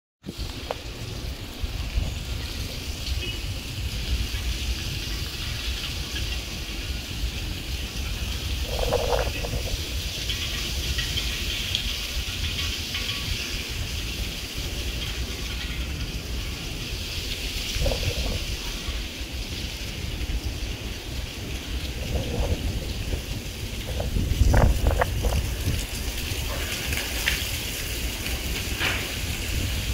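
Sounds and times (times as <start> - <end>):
wind buffeting microphone: 0.3 - 29.9.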